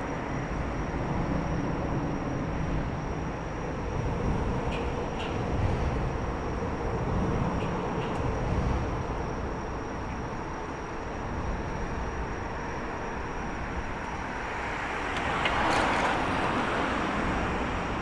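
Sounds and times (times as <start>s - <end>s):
city traffic noise: 0.0s - 18.0s.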